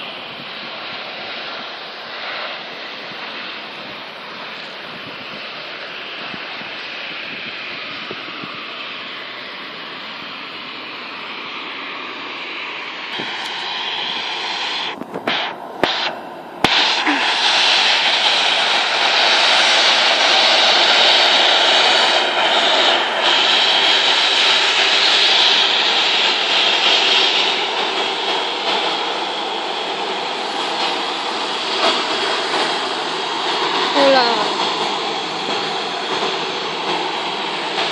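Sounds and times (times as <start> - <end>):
airplane engine noise: 0.0 - 37.9.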